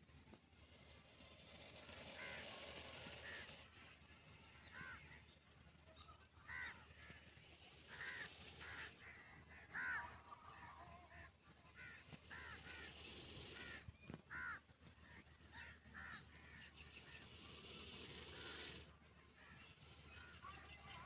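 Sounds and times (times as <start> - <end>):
bird calling faintly: 0.1 - 21.0.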